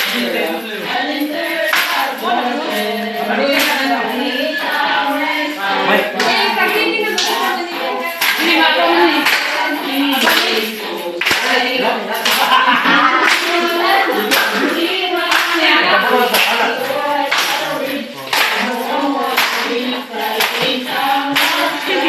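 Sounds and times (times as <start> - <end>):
group chanting a cheer: 0.0 - 22.0
rhythmic hand claps: 0.0 - 22.0.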